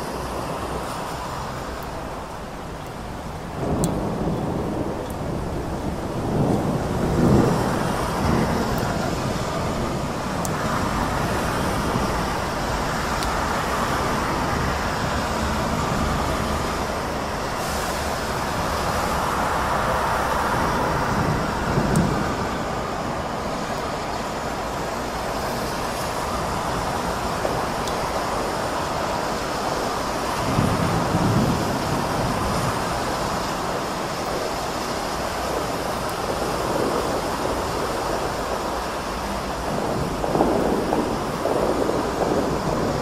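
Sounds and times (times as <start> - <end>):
heavy rain: 0.0 - 43.0
traffic on wet road: 0.0 - 43.0.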